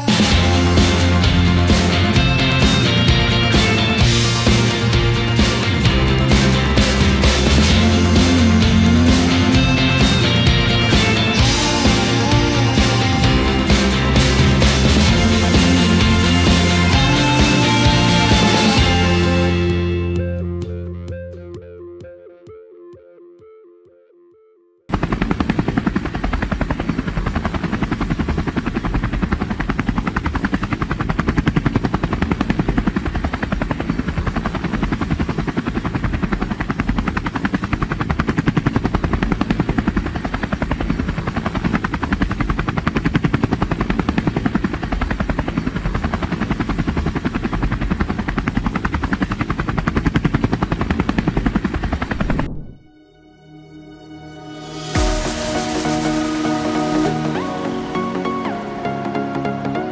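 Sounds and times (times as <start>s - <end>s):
helicopter rotor chopping: 0.0s - 20.2s, 24.9s - 52.9s, 54.8s - 59.5s
helicopter engine noise: 0.0s - 20.6s, 24.9s - 52.9s, 54.6s - 59.9s.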